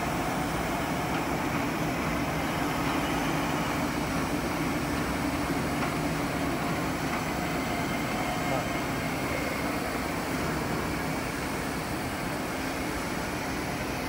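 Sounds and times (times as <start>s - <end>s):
mixer machine humming: 0.0s - 14.0s.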